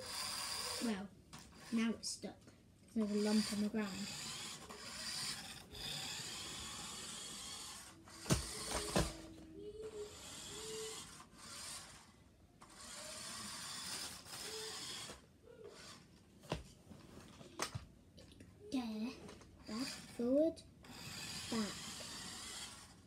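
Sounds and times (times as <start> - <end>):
toy car electric motor whirring: 0.0 - 2.2, 3.0 - 16.1, 19.3 - 23.0.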